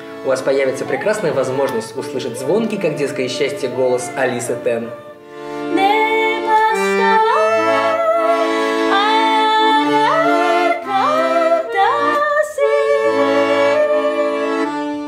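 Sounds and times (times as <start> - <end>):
piano accordion chords: 0.0 - 15.0
woman singing: 1.0 - 14.7.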